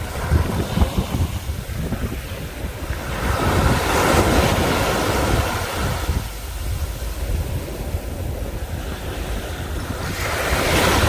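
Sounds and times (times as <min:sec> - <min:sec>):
small waves washing on beach: 0:00.0 - 0:11.0
wind buffeting microphone: 0:00.0 - 0:11.0.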